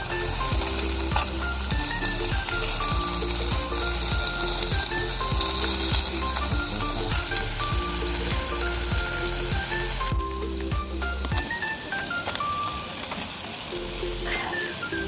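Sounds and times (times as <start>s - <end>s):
background music with a beat: 0.0s - 12.7s
food sizzling in a pan: 0.0s - 15.0s.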